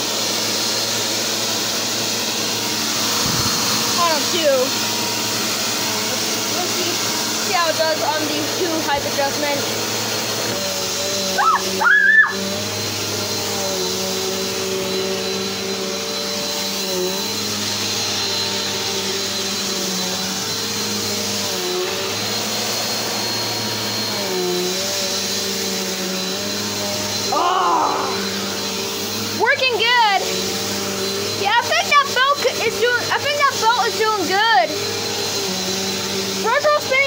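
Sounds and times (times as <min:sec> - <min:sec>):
vacuum cleaner running on carpet: 0:00.0 - 0:37.0.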